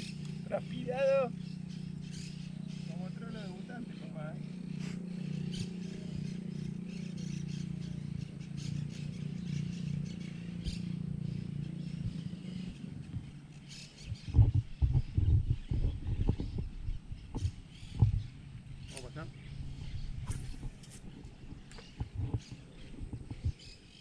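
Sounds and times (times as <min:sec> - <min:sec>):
birds chirping: 0:00.0 - 0:24.0
steady low drone: 0:00.0 - 0:24.0.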